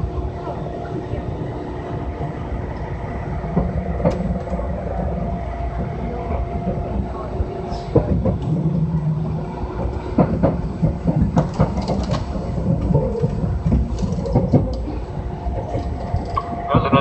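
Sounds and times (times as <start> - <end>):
rail joint clicks: 0.0 - 17.0
train wheels rumbling on rails: 0.0 - 17.0.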